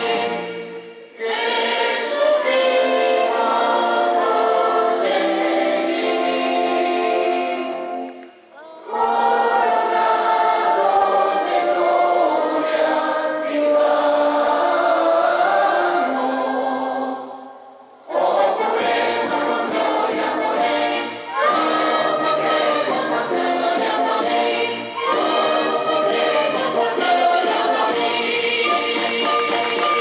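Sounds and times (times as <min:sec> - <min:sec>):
choir singing chords: 0:00.0 - 0:30.0.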